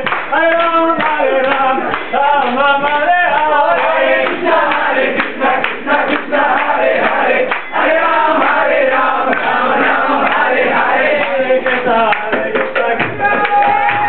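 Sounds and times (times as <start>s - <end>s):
crowd singing a chant: 0.0s - 13.4s
hands clapping: 0.0s - 14.0s.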